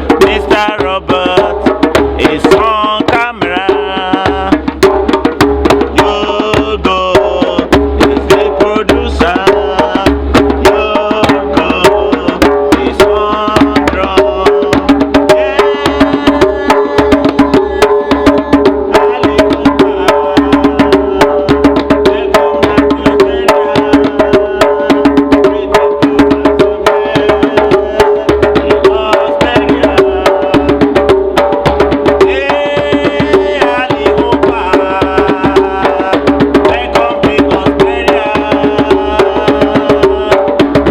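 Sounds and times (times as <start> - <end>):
group hand drumming: 0.0 - 40.9.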